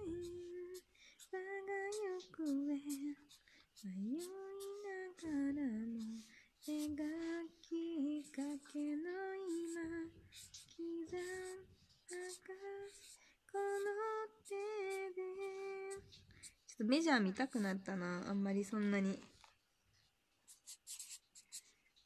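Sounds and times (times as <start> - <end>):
woman singing unaccompanied: 0.0 - 19.1.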